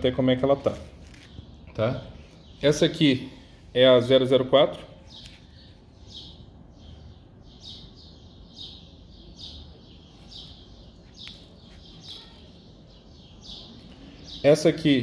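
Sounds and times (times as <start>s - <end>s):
small bird chirping: 0.0s - 3.5s, 4.9s - 15.0s.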